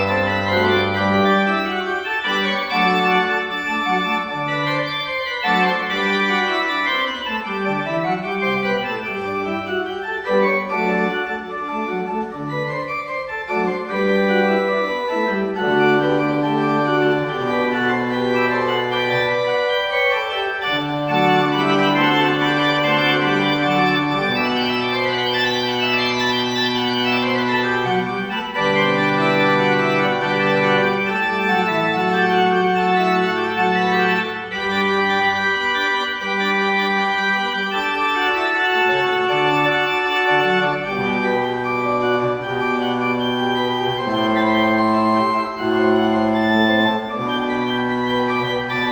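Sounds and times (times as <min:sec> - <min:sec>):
organ music with held chords: 0:00.0 - 0:48.9.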